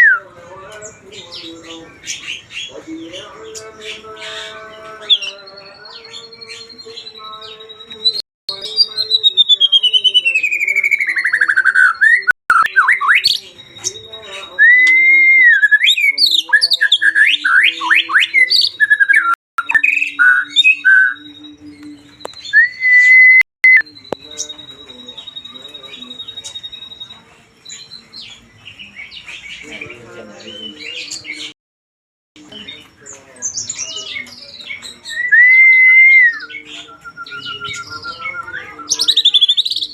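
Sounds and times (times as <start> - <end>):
songbird singing whistles: 0.0 - 0.3, 1.2 - 31.5, 33.4 - 39.9.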